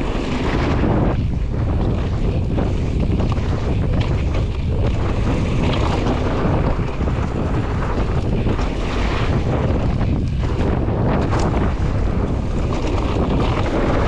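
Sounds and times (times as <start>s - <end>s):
bike clicks and rattles: 0.0s - 14.0s
bike tyres rumbling over gravel: 0.0s - 14.0s
wind buffeting microphone: 0.0s - 14.0s.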